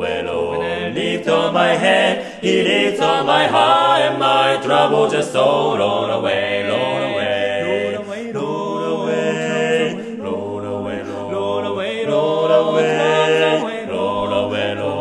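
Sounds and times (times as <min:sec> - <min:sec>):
male quartet singing a cappella: 0:00.0 - 0:15.0.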